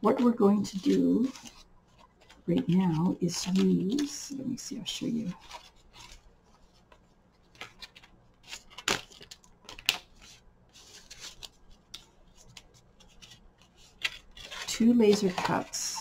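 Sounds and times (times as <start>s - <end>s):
paper and card rustling: 0.1s - 16.0s.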